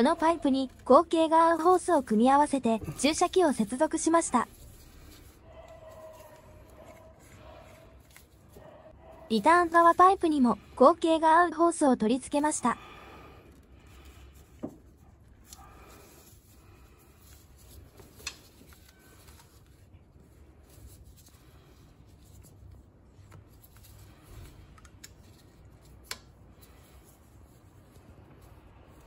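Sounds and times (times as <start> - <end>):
gloved hands rubbing hoses: 0.0 - 10.6, 13.8 - 29.0.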